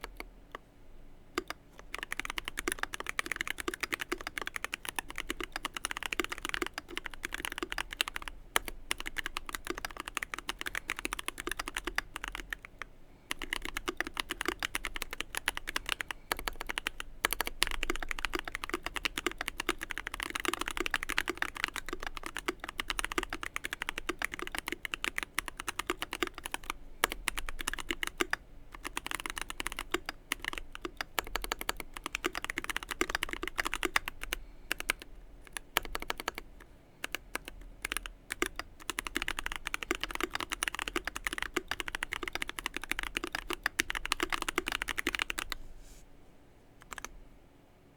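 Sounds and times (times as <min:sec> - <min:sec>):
fast mechanical keyboard typing: 0:01.4 - 0:45.6, 0:46.8 - 0:47.1.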